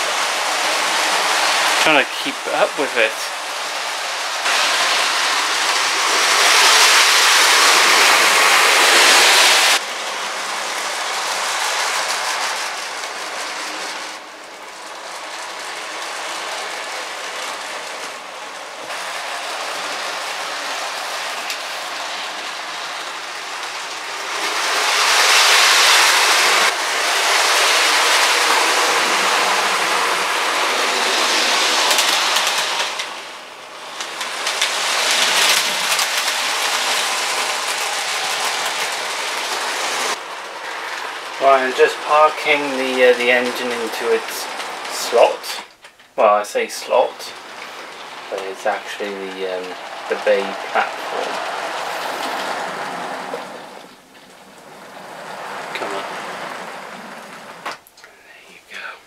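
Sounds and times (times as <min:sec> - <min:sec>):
model train rattling on rails: 0:00.0 - 0:57.9.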